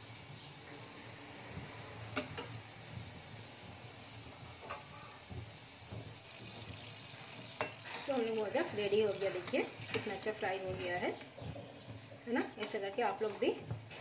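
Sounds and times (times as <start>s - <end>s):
dumplings sizzling in frying oil: 0.0s - 14.0s.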